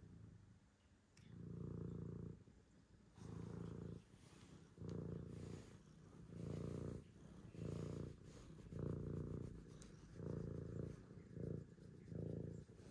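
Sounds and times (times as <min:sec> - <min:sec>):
cat purring: 0:01.2 - 0:12.9.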